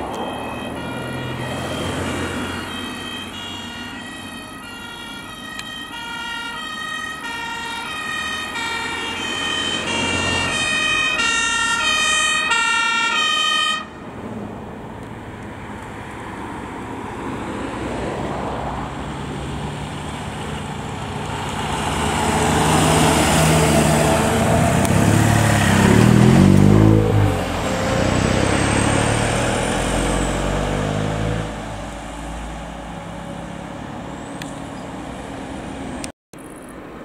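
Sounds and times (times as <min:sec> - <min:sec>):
fire engine diesel driving past: 0:00.0 - 0:36.1.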